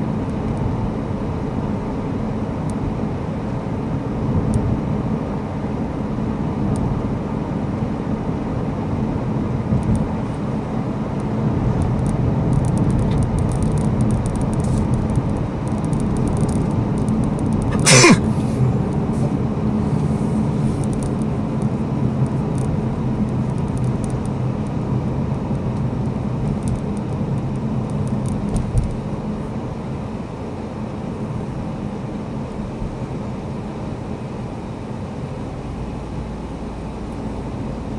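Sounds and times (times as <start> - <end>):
car engine and tyre noise: 0.0 - 37.9.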